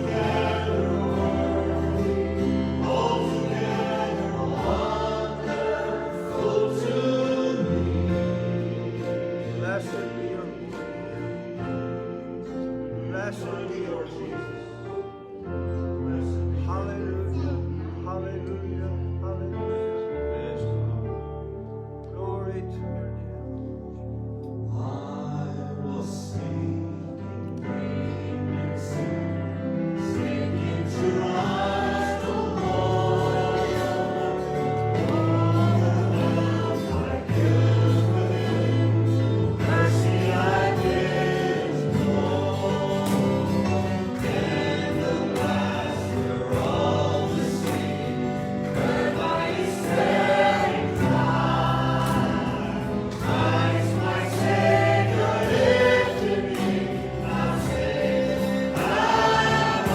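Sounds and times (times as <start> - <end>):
instrumental accompaniment: 0.0 - 16.0, 27.3 - 59.9
group of voices singing: 0.0 - 18.6, 24.7 - 59.9.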